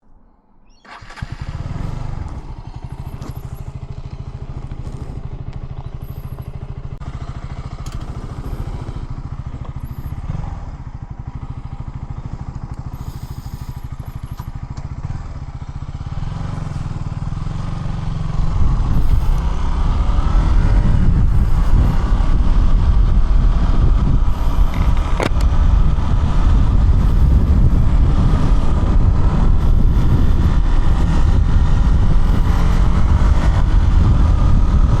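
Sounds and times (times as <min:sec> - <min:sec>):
heavier low engine rumble: 0:00.1 - 0:35.0
motorcycle engine idling: 0:00.7 - 0:35.0.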